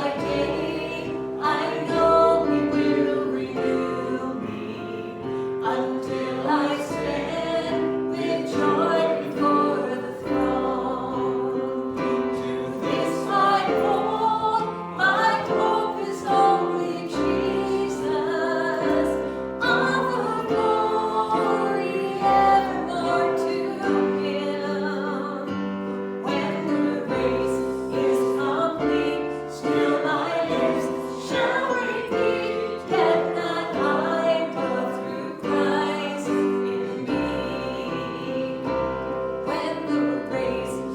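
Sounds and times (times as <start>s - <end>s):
worship singing: 0.0s - 40.9s.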